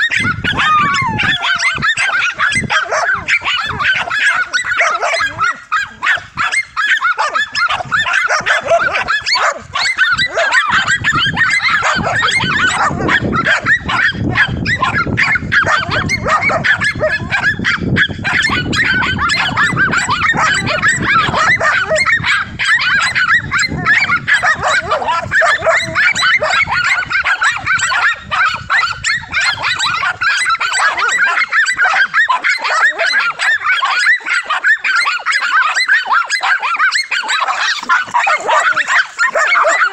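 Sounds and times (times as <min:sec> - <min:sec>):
dogs barking: 0:00.0 - 0:39.9.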